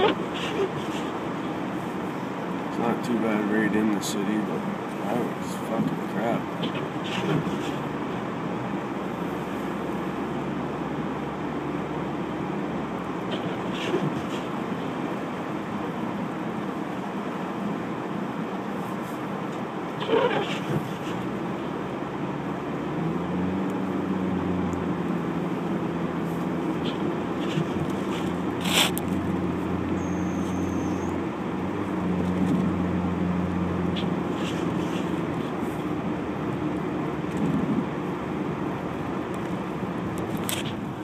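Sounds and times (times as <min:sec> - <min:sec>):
car engine hum: 0:00.0 - 0:41.0
road noise inside car: 0:00.0 - 0:41.0.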